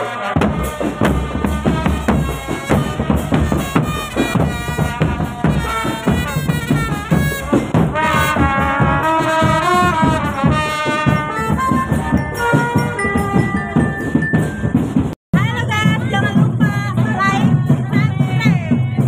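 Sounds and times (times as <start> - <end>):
brass melody: 0.0 - 16.0
marching drum strokes: 0.0 - 19.0.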